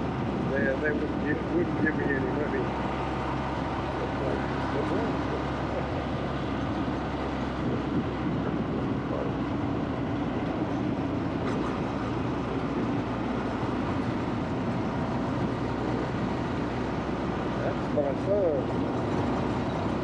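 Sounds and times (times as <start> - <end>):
road noise: 0.0 - 20.0
wind: 0.0 - 20.0.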